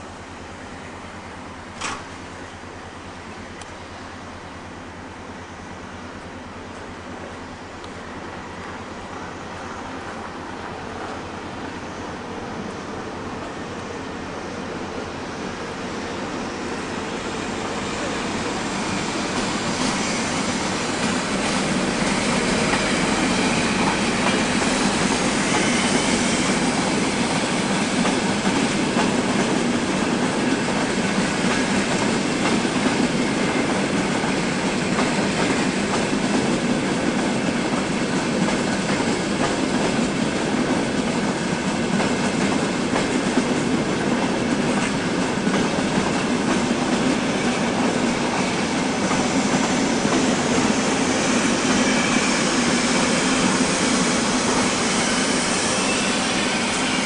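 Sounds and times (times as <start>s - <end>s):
train coaches rolling slowly: 0.0s - 57.0s.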